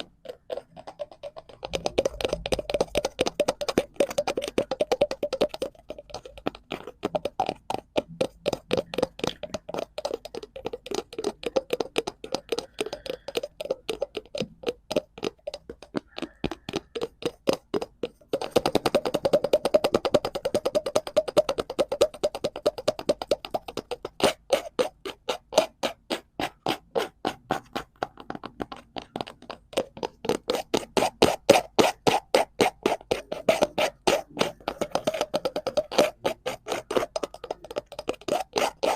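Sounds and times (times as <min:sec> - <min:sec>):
rapid tapping on cardboard: 0:00.0 - 0:38.9.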